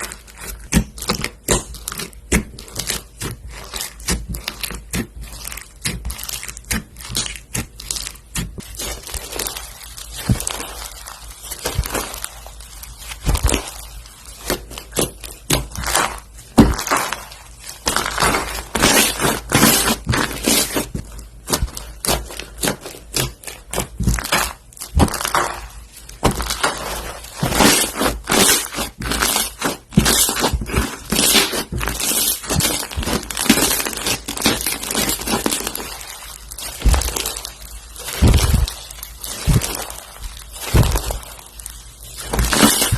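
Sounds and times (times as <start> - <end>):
slime crackling and popping: 0.0 - 42.9.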